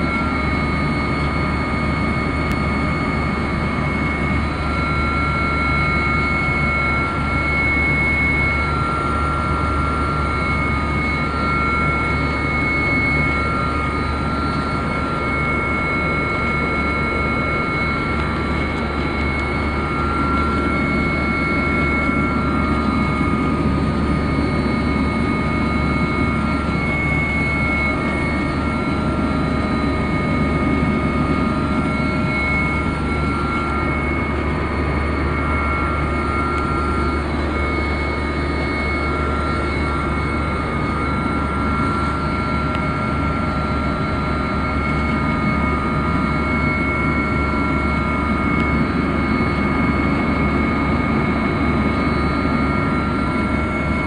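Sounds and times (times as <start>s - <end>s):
helicopter engine and rotor drone: 0.0s - 54.0s
high whine: 0.0s - 54.0s.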